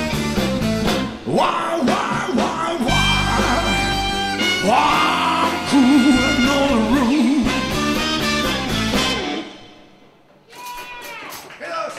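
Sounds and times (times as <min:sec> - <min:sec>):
rock band playing: 0:00.0 - 0:10.3.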